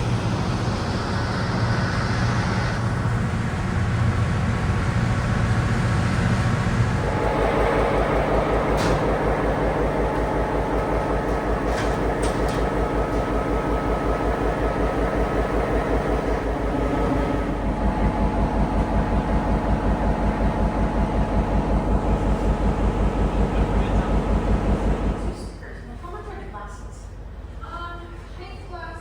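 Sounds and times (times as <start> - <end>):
train rhythmic pulsing: 0.0 - 25.4.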